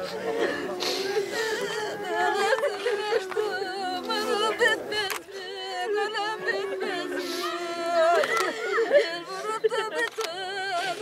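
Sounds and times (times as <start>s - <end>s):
women wailing a lament: 0.0s - 11.0s.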